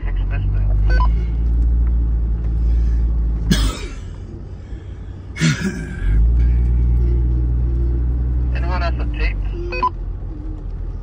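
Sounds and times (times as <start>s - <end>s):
vehicle engine drone from cabin: 0.0s - 11.0s.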